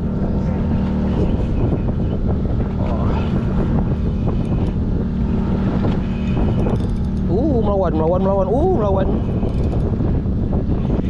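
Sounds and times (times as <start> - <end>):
boat engine droning: 0.0 - 11.0
wind buffeting microphone: 0.0 - 11.0.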